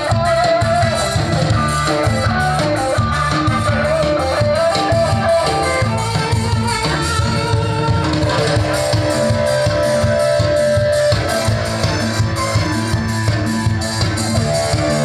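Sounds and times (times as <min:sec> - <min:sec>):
drum kit beat: 0:00.0 - 0:15.0
guitar music: 0:00.0 - 0:15.0.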